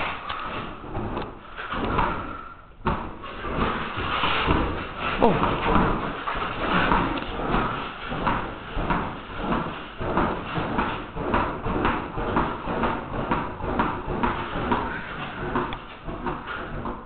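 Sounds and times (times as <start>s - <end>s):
ball bouncing on tennis racket: 0.0s - 17.0s.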